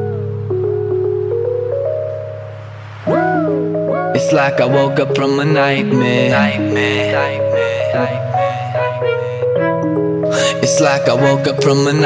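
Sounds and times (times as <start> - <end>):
pop backing music: 0.0 - 12.0.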